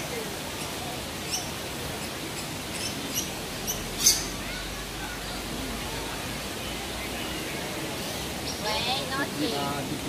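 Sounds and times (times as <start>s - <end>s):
birds chirping: 0.0s - 10.0s
steady background hiss: 0.0s - 10.0s.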